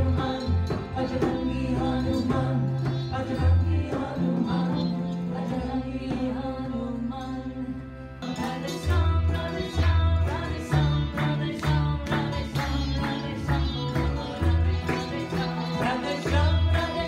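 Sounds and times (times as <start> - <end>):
acoustic guitar: 0.0 - 17.0
harmonium: 0.0 - 17.0
person singing: 0.0 - 17.0
tabla: 0.0 - 17.0
upright bass notes: 0.0 - 17.0.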